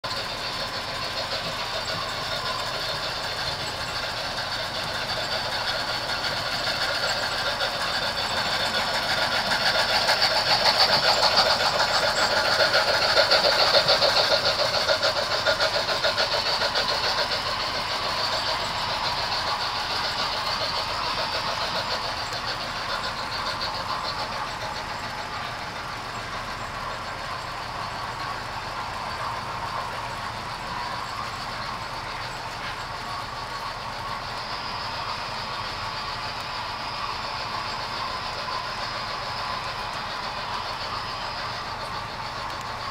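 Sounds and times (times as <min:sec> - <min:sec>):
model train wheels clicking: 0:00.0 - 0:42.9.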